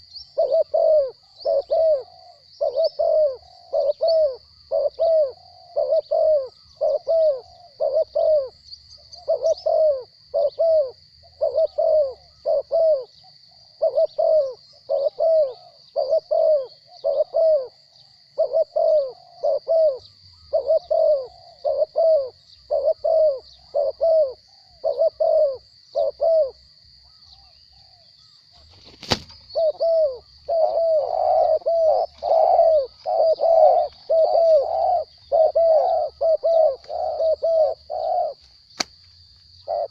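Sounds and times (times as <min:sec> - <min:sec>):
doves cooing: 0:00.0 - 0:38.5, 0:39.6 - 0:39.9.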